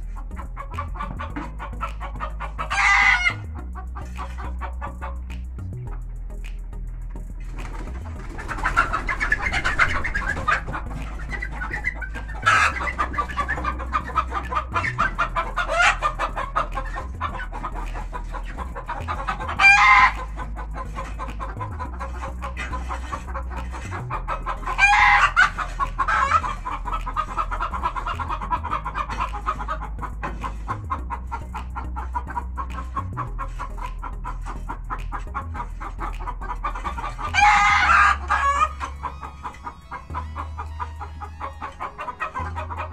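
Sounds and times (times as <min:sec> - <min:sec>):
chickens clucking: 0:00.0 - 0:42.9
loud chicken calls: 0:00.6 - 0:03.4, 0:07.6 - 0:30.8, 0:31.5 - 0:42.9.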